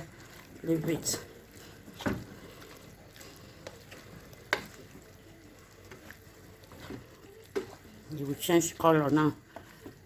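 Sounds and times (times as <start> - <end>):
chicken sizzling in a pot: 0.0 - 10.0.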